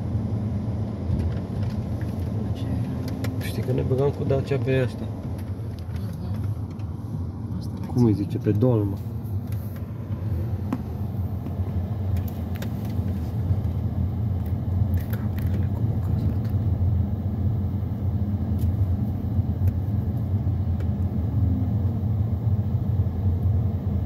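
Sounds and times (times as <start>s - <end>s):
car driving heard from inside: 0.0s - 24.0s.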